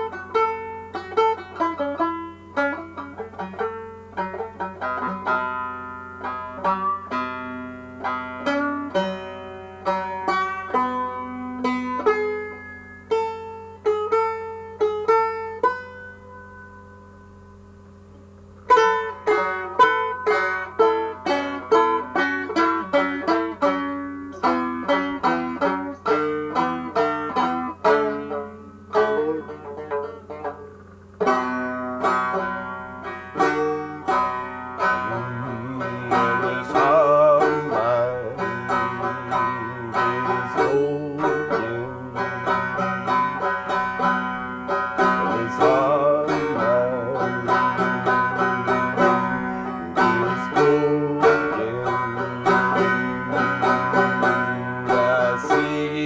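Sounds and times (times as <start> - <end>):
banjo picking: 0.0 - 56.0.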